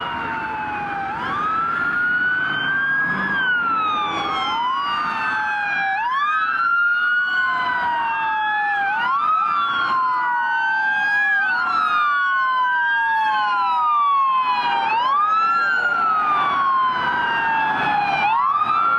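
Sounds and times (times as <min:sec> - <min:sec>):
police sirens wailing: 0:00.0 - 0:18.9.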